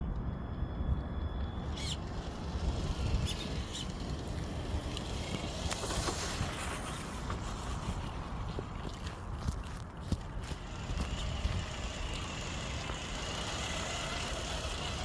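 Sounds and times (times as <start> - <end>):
wind on microphone: 0.0 - 14.0
distant highway traffic rumble: 0.0 - 15.0.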